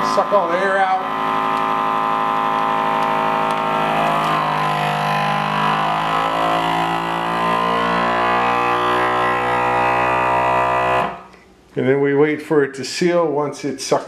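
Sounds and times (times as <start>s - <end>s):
vacuum sealer pump running: 0.0s - 11.6s.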